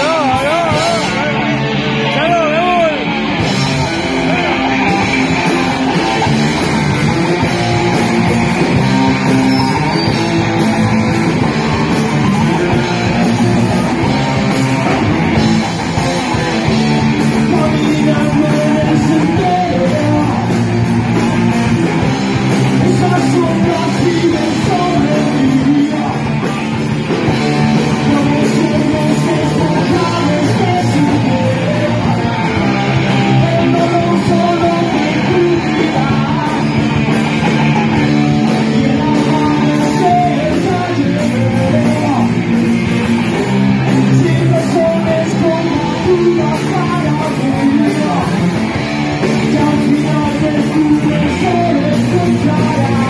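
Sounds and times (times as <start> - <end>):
rock music with guitar and singing: 0.0 - 53.0.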